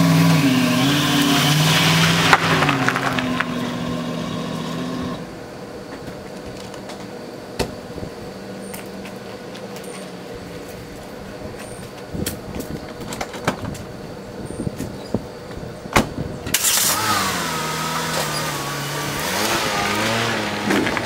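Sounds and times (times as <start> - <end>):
car engine humming: 0.0 - 13.0, 13.8 - 21.0
outdoor background: 0.0 - 21.0.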